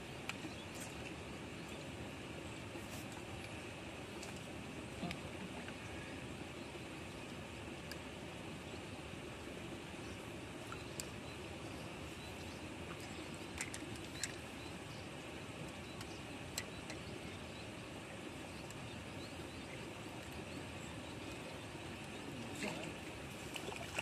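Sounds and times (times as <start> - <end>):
low outdoor background noise: 0.0 - 24.0.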